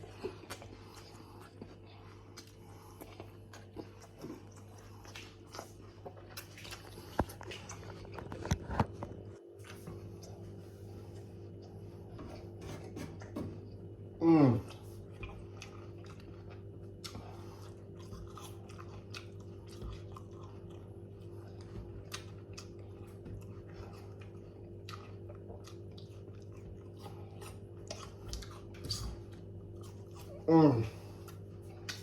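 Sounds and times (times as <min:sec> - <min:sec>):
low electrical hum: 0:00.0 - 0:32.0
person chewing crunchy food: 0:00.0 - 0:32.0.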